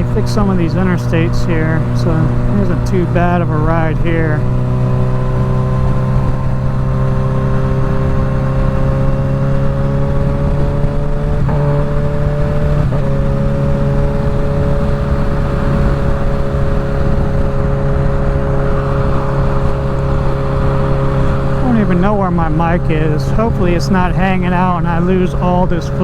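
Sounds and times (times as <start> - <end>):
motorcycle engine cruising: 0.0 - 26.0
wind noise: 0.0 - 26.0.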